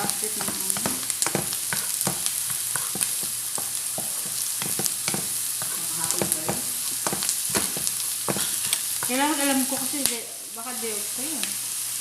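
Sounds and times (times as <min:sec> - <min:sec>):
rice sizzling in a pan: 0:00.0 - 0:12.0
spatula scraping a pan: 0:00.3 - 0:10.0.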